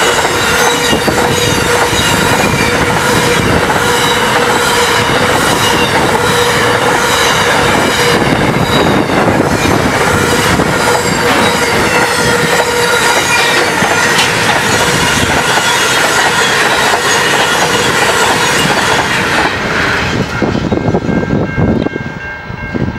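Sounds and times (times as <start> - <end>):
high wheel squeal: 0.0 - 20.8
freight train rumbling past: 0.0 - 22.9.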